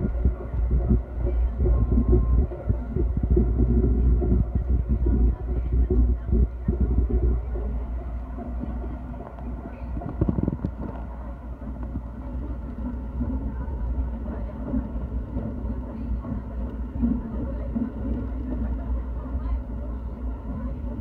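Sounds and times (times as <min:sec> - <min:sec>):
train rumble inside carriage: 0:00.0 - 0:21.0.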